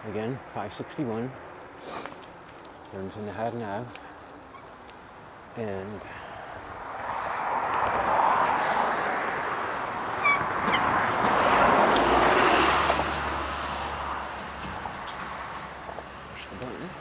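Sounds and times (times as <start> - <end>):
cars and trucks passing: 0.0 - 17.0.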